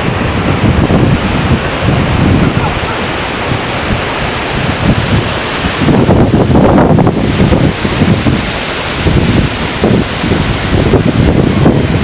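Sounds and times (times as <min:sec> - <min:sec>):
waterfall rushing: 0:00.0 - 0:12.0
wind buffeting microphone: 0:00.0 - 0:12.0.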